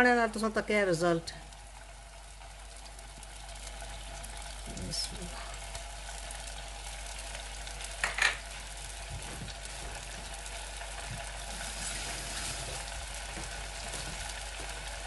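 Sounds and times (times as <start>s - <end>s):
butter sizzling in a pot: 0.0s - 15.0s.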